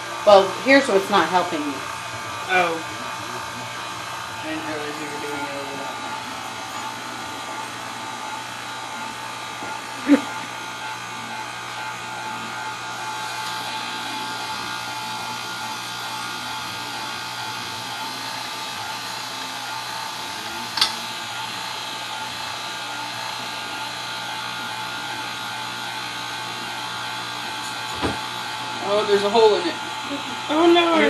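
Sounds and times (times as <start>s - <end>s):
electric pasta roller running: 0.0s - 31.0s.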